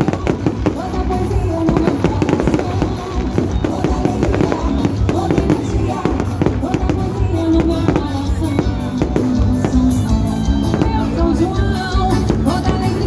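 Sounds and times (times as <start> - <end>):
fireworks bangs and crackles: 0.0 - 13.0
loud music: 0.0 - 13.0.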